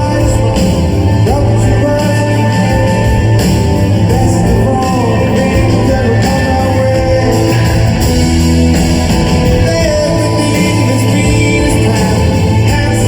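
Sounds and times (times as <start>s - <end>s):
person singing: 0.0s - 13.0s
rock band playing: 0.0s - 13.0s.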